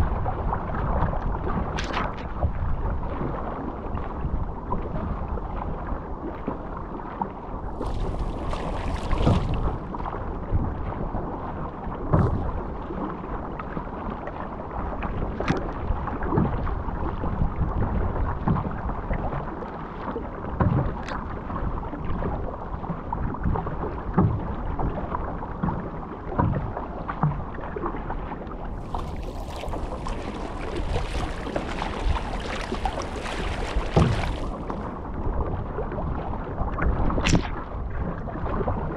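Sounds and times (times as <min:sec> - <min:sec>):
wind on microphone: 0:00.0 - 0:26.8, 0:28.6 - 0:38.9
paddle pulling through water: 0:00.0 - 0:38.9
waves slapping a hull: 0:00.0 - 0:38.9.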